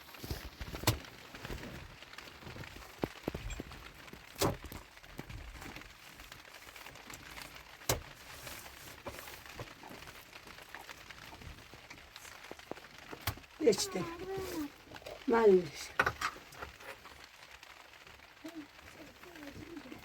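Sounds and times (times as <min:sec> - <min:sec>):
faint rustling: 0:00.0 - 0:20.0.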